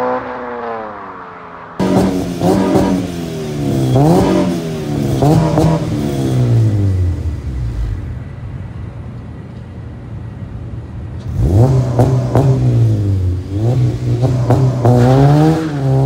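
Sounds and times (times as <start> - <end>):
car engine revving and idling: 0.0 - 8.6, 10.8 - 16.0.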